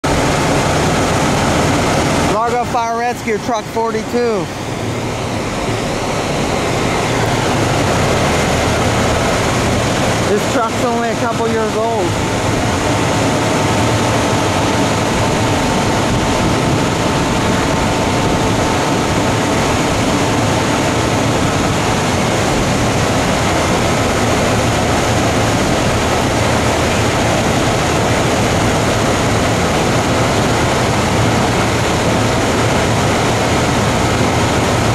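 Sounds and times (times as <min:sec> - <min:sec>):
diesel engine droning: 0:00.0 - 0:34.9.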